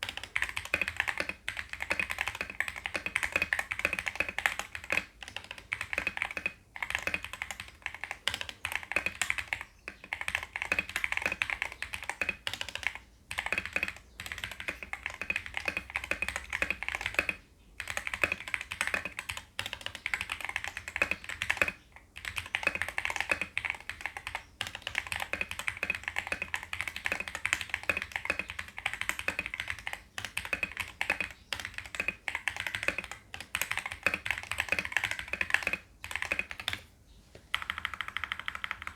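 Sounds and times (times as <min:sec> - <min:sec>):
typing on mechanical keyboard: 0:00.0 - 0:36.9, 0:37.5 - 0:38.9.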